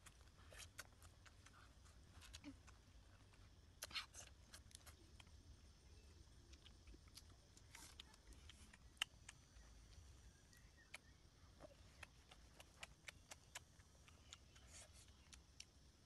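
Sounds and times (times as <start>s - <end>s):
faint clicks and ticks: 0.0s - 16.0s.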